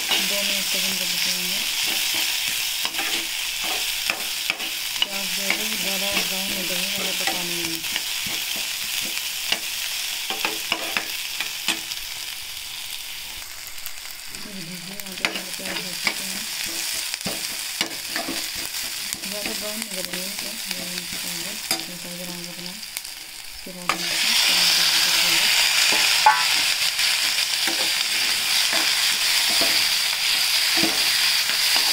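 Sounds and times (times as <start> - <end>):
onions sizzling in hot oil: 0.0 - 31.9.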